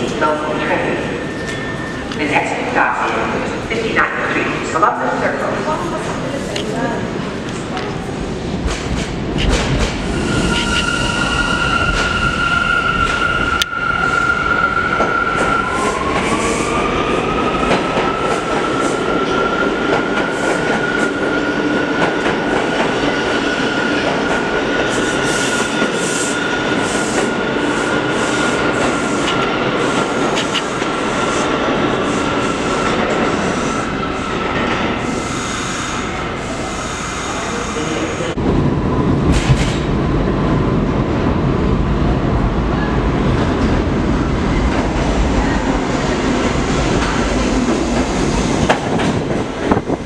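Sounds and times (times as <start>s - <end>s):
subway train electric whine: 0.0s - 50.0s.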